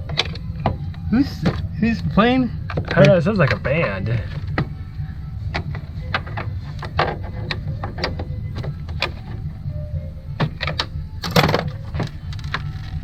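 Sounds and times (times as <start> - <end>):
distant band music: 0.0 - 13.0
steady low rumble: 0.0 - 13.0.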